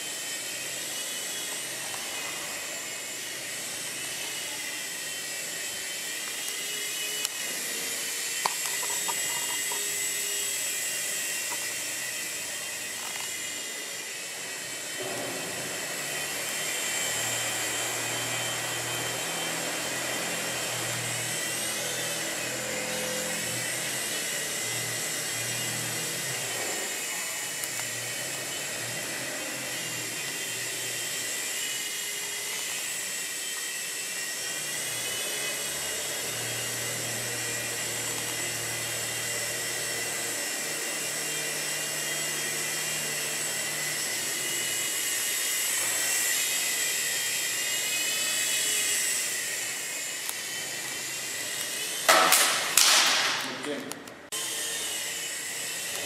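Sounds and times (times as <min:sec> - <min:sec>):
toy helicopter rotors whining: 0:00.0 - 0:56.0.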